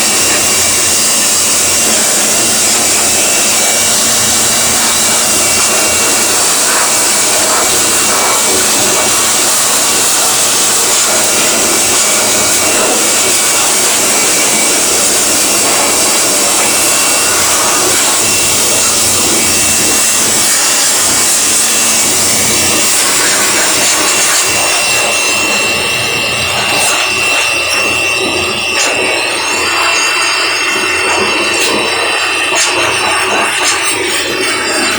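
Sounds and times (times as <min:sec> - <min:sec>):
electric air blower running: 0:00.0 - 0:34.9
thin high whistle: 0:00.0 - 0:34.9.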